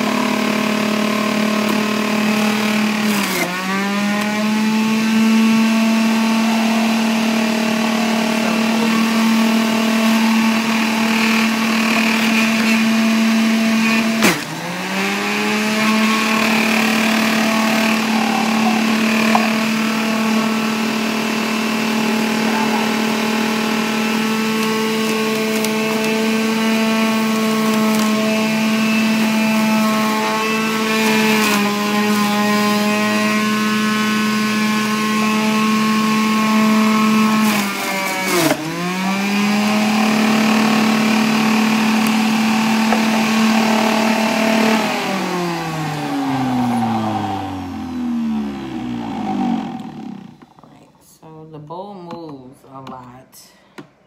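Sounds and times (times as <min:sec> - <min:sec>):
juicer motor whining: 0:00.0 - 0:50.6.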